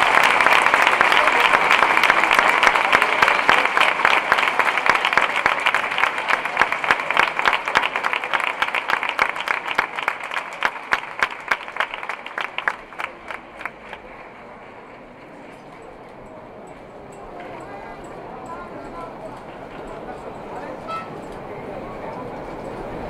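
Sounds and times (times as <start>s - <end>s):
crowd applauding: 0.0s - 21.4s.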